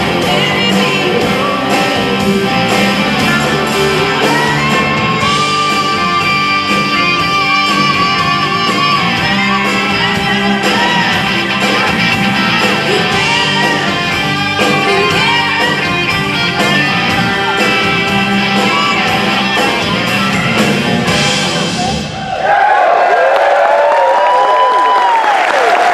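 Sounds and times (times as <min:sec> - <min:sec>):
person singing: 0:00.0 - 0:22.0
electric guitar: 0:00.0 - 0:22.1
drum kit: 0:00.0 - 0:22.6.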